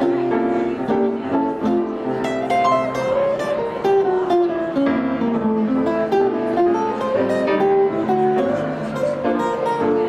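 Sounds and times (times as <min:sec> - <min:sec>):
plucked guitar melody: 0:00.0 - 0:10.0.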